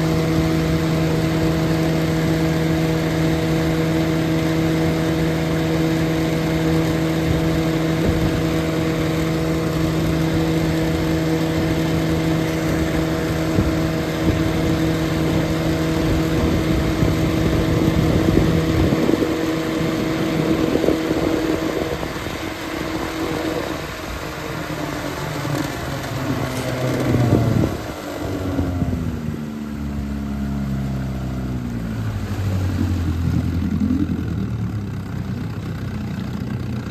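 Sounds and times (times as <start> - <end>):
outboard motor running: 0.0 - 36.9.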